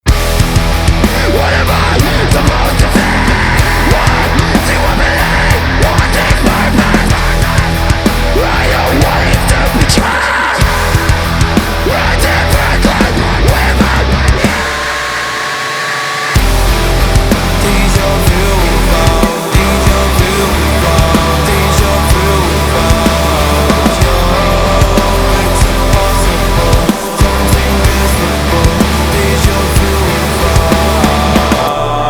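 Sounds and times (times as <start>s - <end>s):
heavy rock band music: 0.0s - 32.0s.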